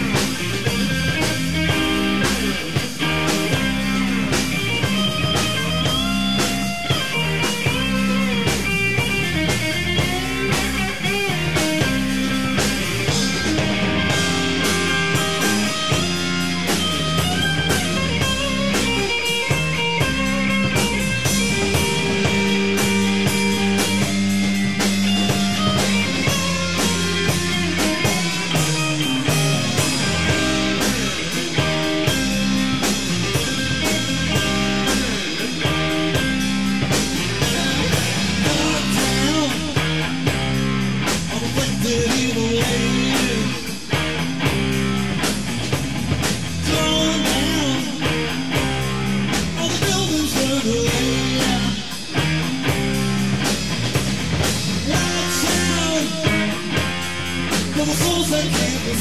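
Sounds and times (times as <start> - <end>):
drum kit beat: 0.0 - 59.0
rock guitar lines: 0.0 - 59.0.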